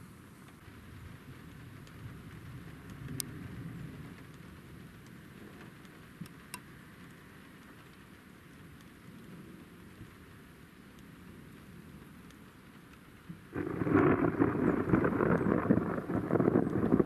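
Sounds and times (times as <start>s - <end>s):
steady rain falling: 0.0s - 17.0s
wind rumbling on microphone: 0.0s - 17.0s.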